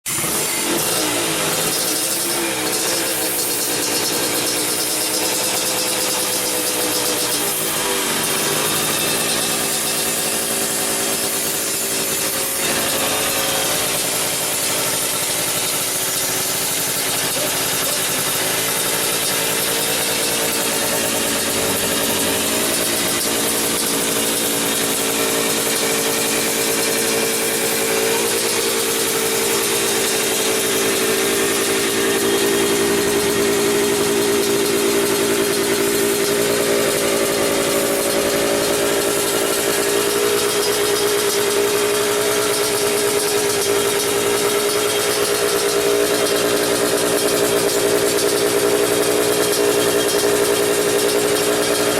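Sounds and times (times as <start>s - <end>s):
two-stroke engine running: 0.0s - 51.9s.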